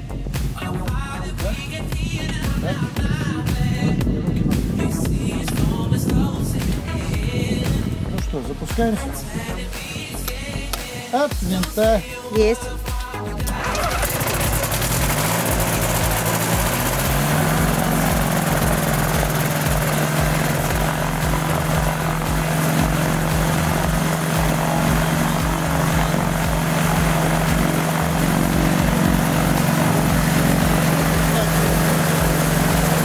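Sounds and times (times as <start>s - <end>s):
engine and propeller running: 0.0s - 33.0s.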